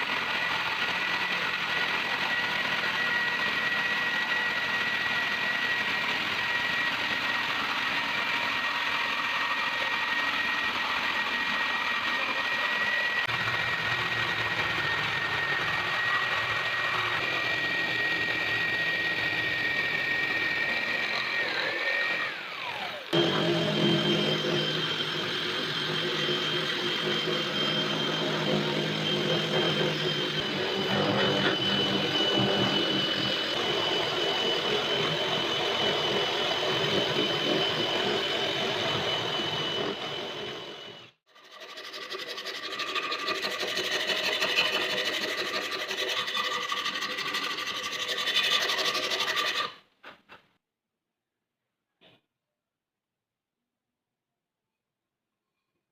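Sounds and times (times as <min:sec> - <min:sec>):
power tool motor whining: 0:00.0 - 0:49.7.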